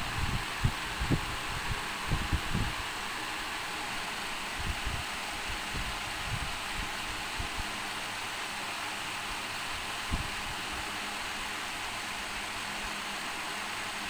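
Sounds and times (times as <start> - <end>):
steady fan-like hiss: 0.0 - 14.0.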